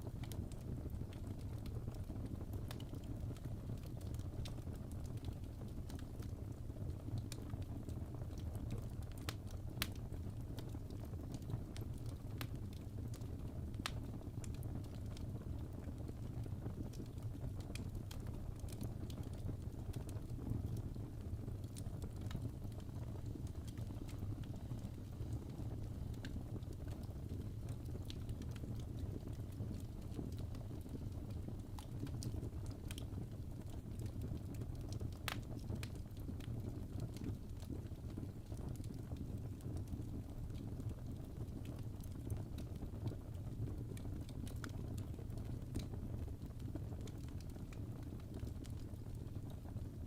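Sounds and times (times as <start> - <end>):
fireplace crackling: 0.0 - 50.0
low rumble of burning logs: 0.0 - 50.0.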